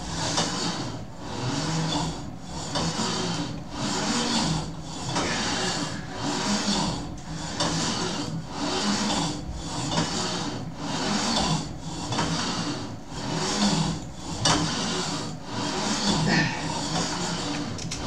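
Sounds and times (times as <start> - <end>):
cable rasping over pulleys: 0.0 - 18.0
weight plates sliding: 0.1 - 17.8.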